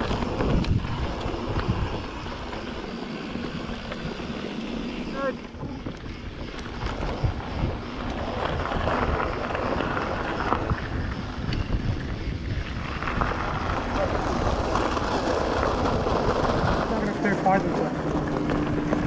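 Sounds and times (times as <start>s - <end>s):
bike tyres rolling over gravel: 0.0s - 19.0s
wind rushing over microphone: 0.0s - 19.0s.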